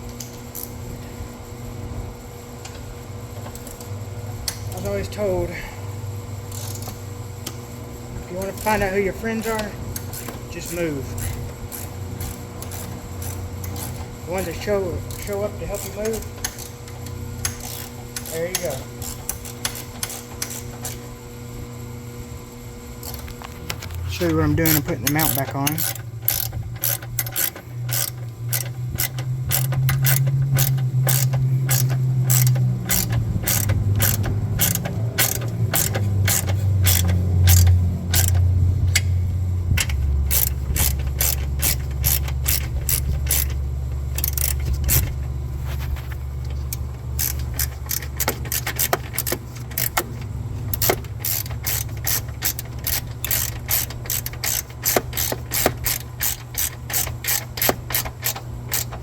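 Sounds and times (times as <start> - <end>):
low steady hum: 0.0 - 59.0
hand ratchet clicking: 3.4 - 5.1, 6.5 - 7.6, 8.3 - 21.0, 23.0 - 59.0.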